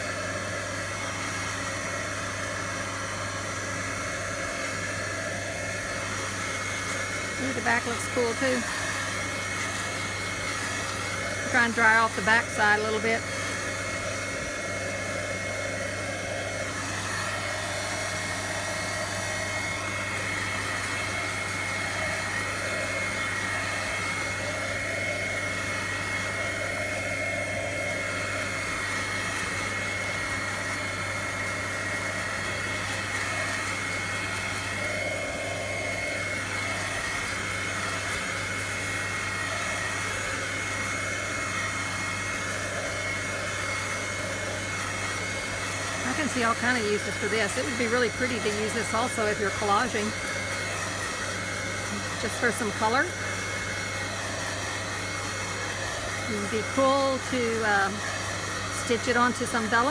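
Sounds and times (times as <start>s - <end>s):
heat gun blowing with whine: 0.0s - 59.9s.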